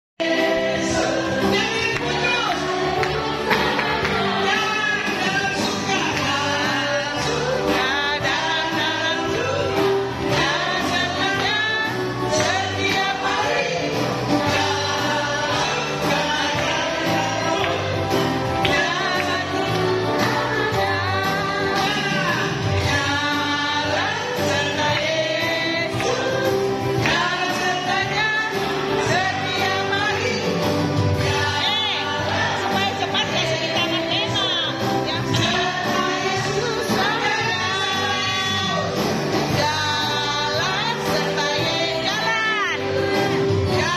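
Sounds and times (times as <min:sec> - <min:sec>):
instrumental accompaniment with bass: 0:00.2 - 0:43.9
people singing worship song: 0:00.2 - 0:43.9.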